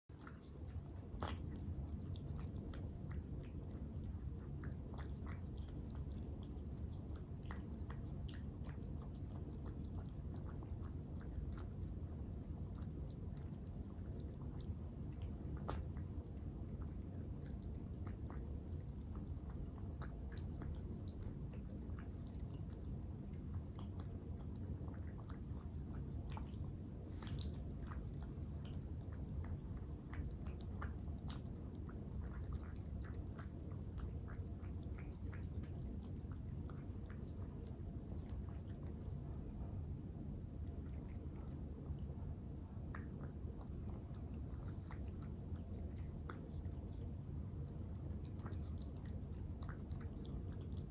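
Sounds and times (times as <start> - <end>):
cats chewing and crunching: 0.0 - 50.9
steady low hum: 0.0 - 50.9.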